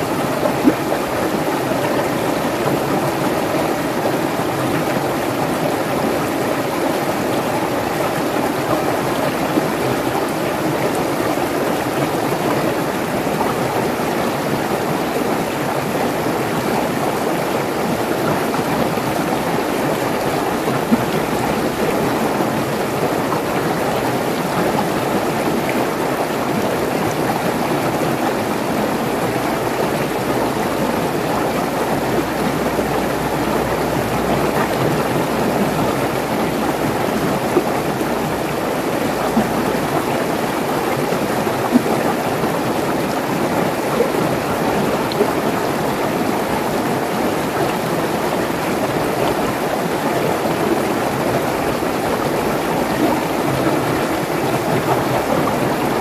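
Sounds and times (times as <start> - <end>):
stream rushing over rocks: 0.0 - 56.0
water splashes: 0.0 - 56.0.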